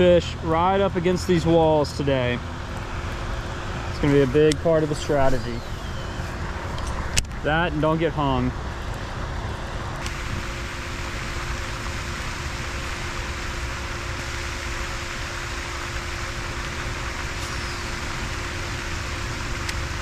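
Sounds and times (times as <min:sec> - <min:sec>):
faint steady hum: 0:00.0 - 0:20.0
steady rushing outdoor noise: 0:00.0 - 0:20.0.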